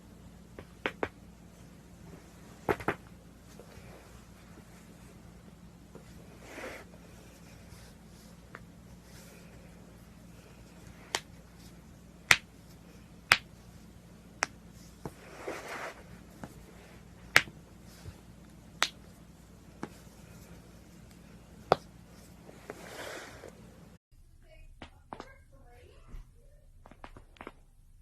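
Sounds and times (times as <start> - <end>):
soft rustle: 1.4 - 24.0.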